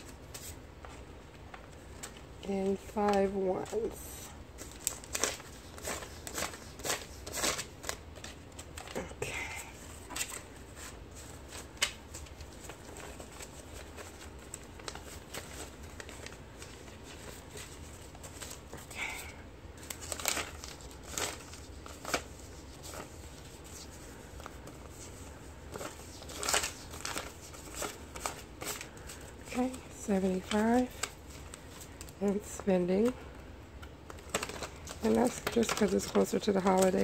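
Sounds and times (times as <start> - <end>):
banknotes rustling and flicking: 0.0 - 37.0.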